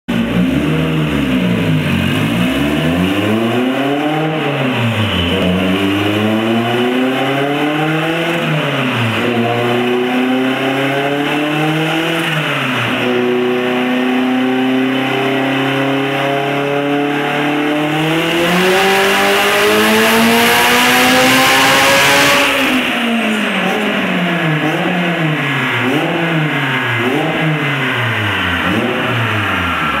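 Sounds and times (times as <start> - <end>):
turbocharged car engine revving: 0.1 - 30.0.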